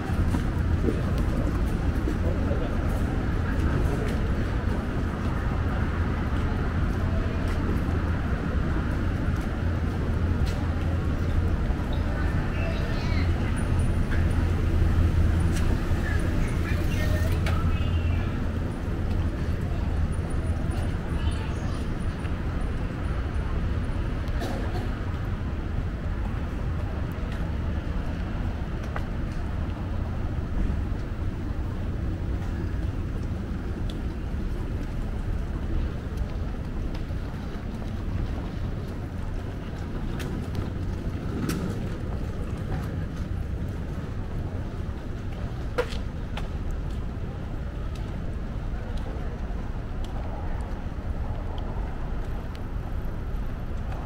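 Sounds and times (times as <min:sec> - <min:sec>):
faint voices of passers-by: 0:00.0 - 0:54.0
low city rumble: 0:00.0 - 0:54.0.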